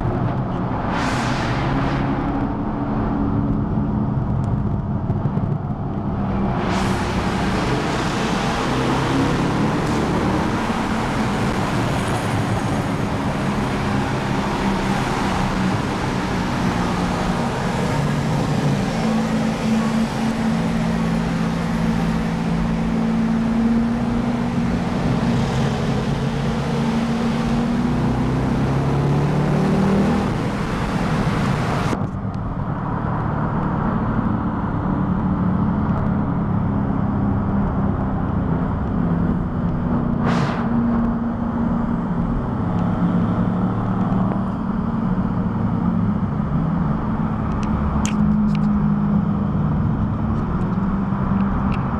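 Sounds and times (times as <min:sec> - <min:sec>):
car engines and exhausts: 0:00.0 - 0:51.9
road and wind noise: 0:00.0 - 0:51.9.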